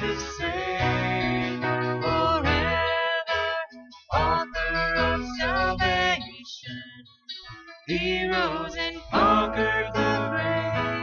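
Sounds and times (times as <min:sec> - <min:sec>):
people singing: 0:00.0 - 0:03.5, 0:04.1 - 0:06.8, 0:07.9 - 0:11.0
electric guitar: 0:00.0 - 0:11.0
strummed acoustic guitars: 0:00.0 - 0:11.0.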